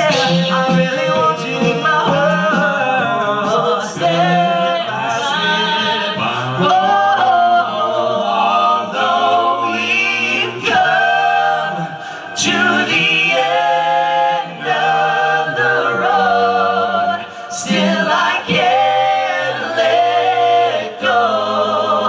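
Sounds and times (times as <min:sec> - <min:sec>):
male a cappella group singing: 0:00.0 - 0:22.0.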